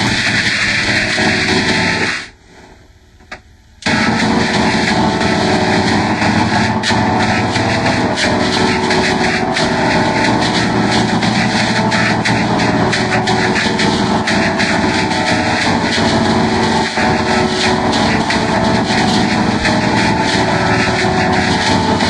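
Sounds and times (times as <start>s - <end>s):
dense distorted toy voice drone: 0.0s - 2.8s, 3.8s - 22.0s.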